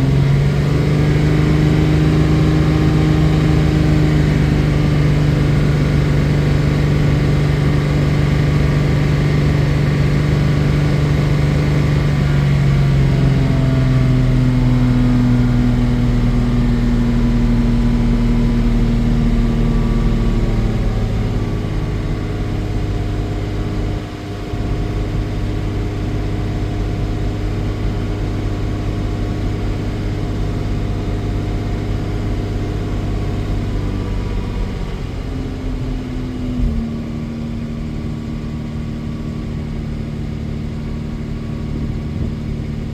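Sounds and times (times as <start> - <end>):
car engine running with misfire: 0.0 - 42.9.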